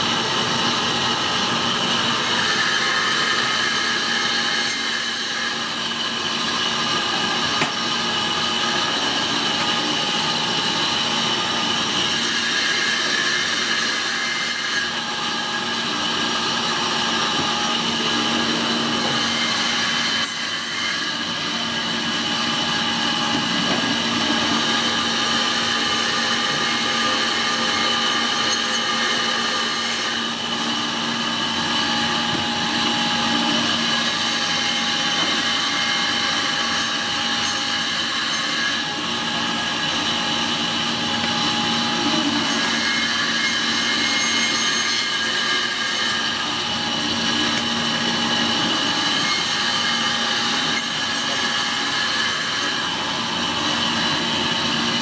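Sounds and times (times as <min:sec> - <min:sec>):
band saw motor whine: 0:00.0 - 0:55.0
saw blade cutting through bone: 0:02.2 - 0:21.5, 0:23.3 - 0:31.0, 0:33.3 - 0:39.0, 0:41.8 - 0:54.1.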